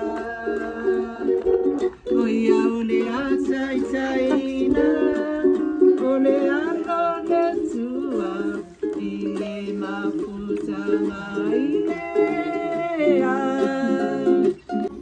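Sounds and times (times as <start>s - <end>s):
person singing: 0.0s - 15.0s
ukulele music: 0.0s - 15.0s.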